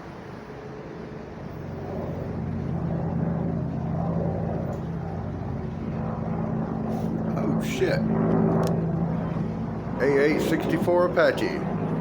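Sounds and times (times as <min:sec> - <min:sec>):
helicopter flying by: 0:00.0 - 0:12.0.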